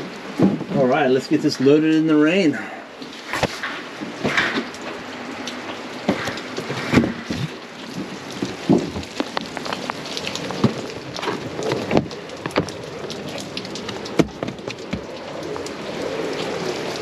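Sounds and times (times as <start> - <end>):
heavy rain hissing: 0.0 - 17.0
raindrops tapping nearby surfaces: 0.0 - 17.0.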